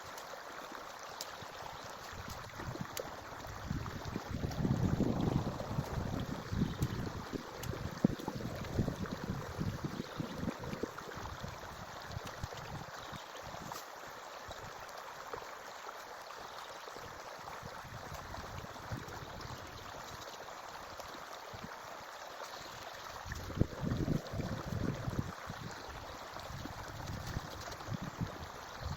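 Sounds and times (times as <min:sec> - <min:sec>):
stream rushing water: 0:00.0 - 0:28.9.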